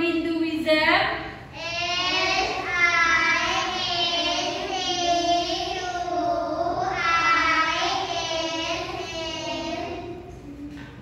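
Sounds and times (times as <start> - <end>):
children reading aloud in unison: 1.2 - 11.0.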